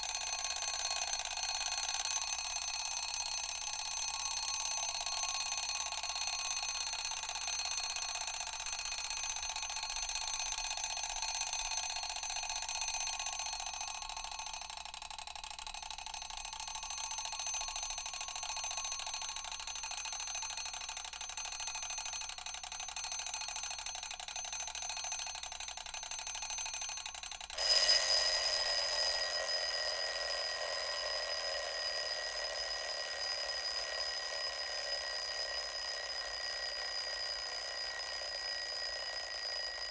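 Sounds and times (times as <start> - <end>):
alarm clock bell ringing: 0.0 - 15.0, 15.7 - 39.9.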